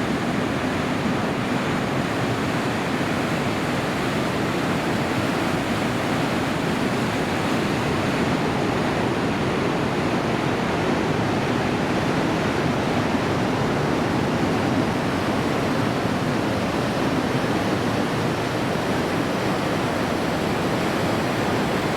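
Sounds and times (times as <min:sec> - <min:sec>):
ocean surf breaking: 0:00.0 - 0:21.9.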